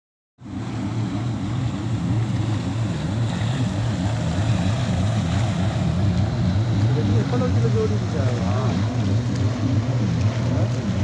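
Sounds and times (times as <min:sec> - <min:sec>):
powerboat engines droning: 0:00.4 - 0:11.0.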